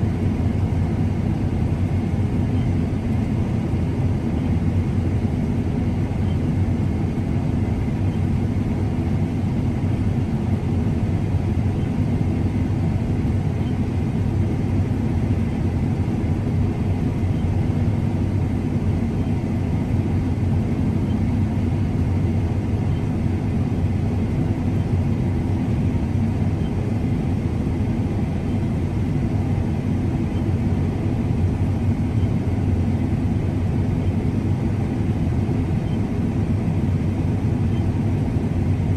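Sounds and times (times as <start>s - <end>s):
large engine droning: 0.0s - 38.9s.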